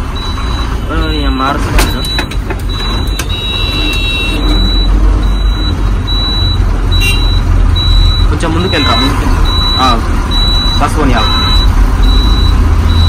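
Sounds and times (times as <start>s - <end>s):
truck diesel engine running: 0.0s - 13.0s
high electronic beeps: 0.2s - 13.0s.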